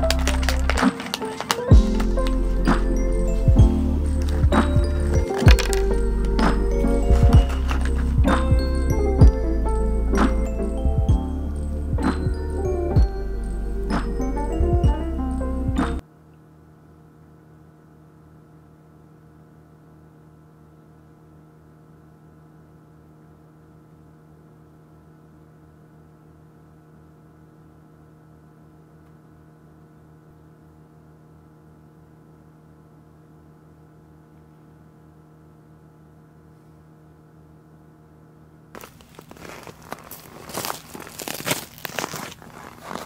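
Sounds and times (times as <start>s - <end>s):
low electrical hum with throbbing: 1.7s - 43.0s.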